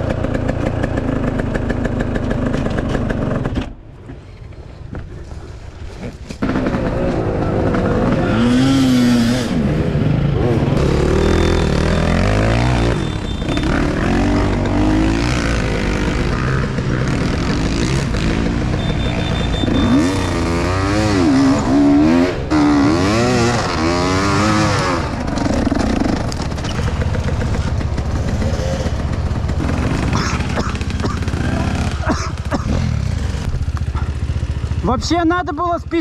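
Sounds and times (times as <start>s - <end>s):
motorcycle engine revving: 0.0s - 3.7s, 6.3s - 36.0s.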